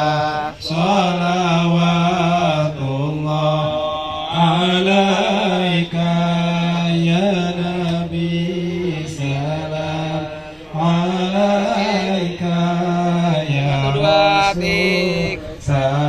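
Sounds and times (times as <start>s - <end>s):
person chanting melismatically: 0.0s - 16.0s.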